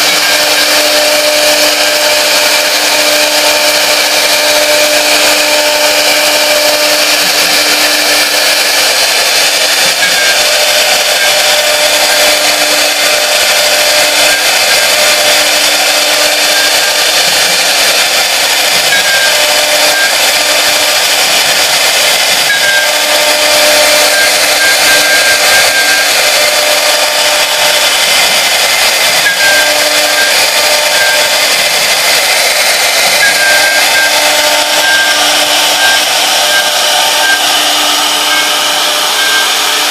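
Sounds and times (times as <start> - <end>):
wood router whirring and cutting: 0.0 - 39.9.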